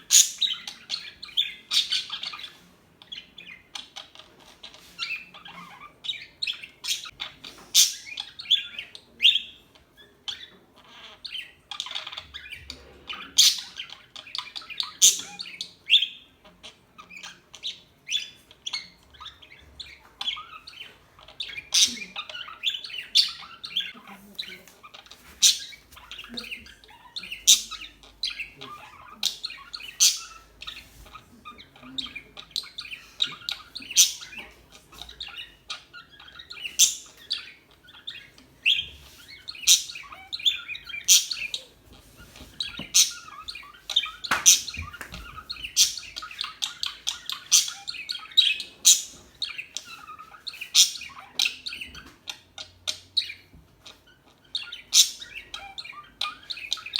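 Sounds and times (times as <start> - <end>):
budgerigars chirping and twittering: 0.0 - 56.9.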